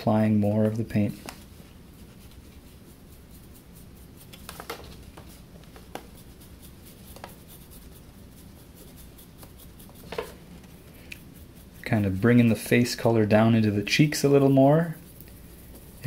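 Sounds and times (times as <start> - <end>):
low room hum: 0.0 - 16.0
paintbrush scratching on wood: 0.6 - 16.0.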